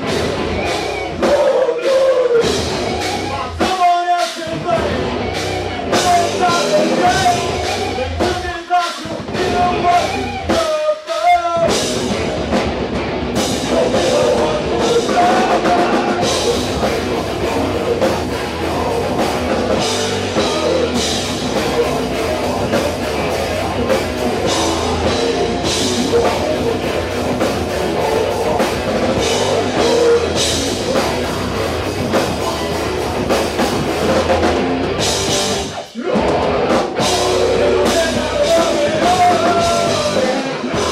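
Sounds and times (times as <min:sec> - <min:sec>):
heavy rock band playing: 0:00.0 - 0:40.9
pounding drum kit: 0:00.0 - 0:40.9.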